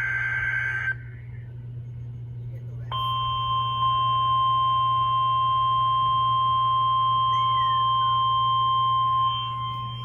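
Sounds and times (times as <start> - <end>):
steady warning alarm tone: 0.0 - 1.4, 2.9 - 10.0.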